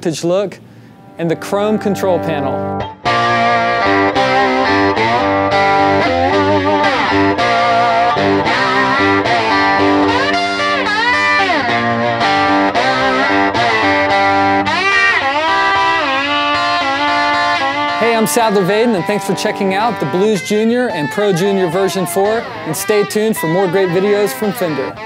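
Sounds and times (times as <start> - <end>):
electric guitar with string bends: 0.5 - 25.0.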